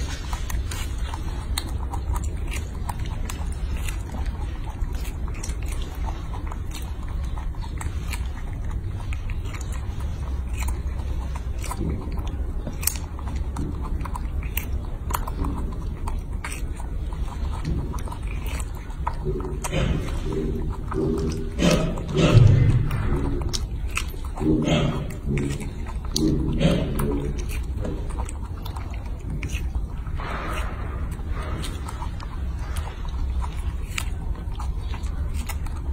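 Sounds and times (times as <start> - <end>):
low hum: 0.0 - 35.9
monkey chewing fruit: 0.0 - 35.9.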